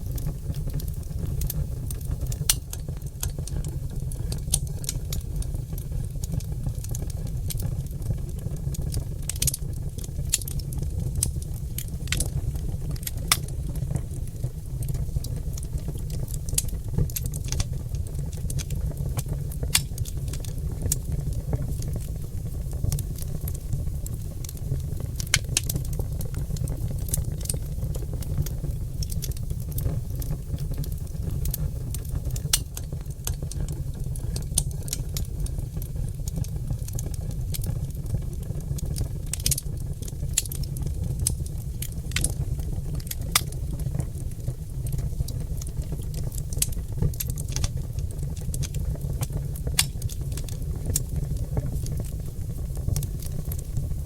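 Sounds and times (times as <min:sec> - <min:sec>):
logs crackling in fireplace: 0:00.0 - 0:54.0
low rumble of fire: 0:00.0 - 0:54.0.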